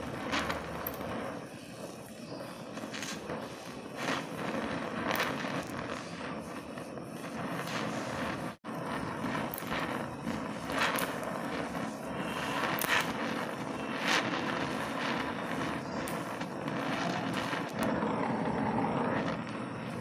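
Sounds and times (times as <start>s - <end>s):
flame crackles: 0.0s - 20.0s
welding torch flame hissing: 0.0s - 20.0s.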